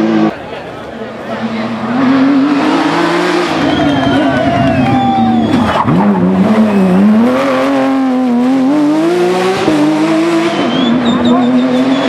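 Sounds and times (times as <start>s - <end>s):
rally car engine revving: 0.0s - 0.4s, 1.0s - 12.0s.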